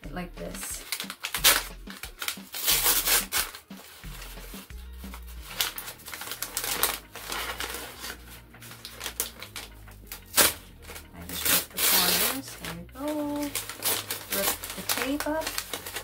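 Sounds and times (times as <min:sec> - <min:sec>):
cardboard and tape tearing: 0:00.4 - 0:16.0.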